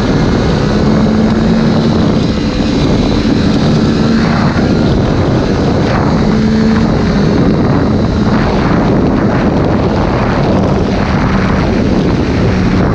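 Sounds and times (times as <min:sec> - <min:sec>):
motorcycle engine running: 0:00.0 - 0:12.9
wind rushing over microphone: 0:00.0 - 0:12.9.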